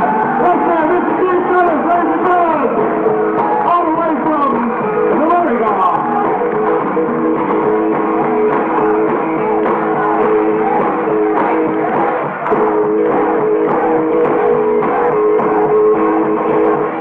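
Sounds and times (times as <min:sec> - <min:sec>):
rock and roll band playing live: 0:00.0 - 0:17.0.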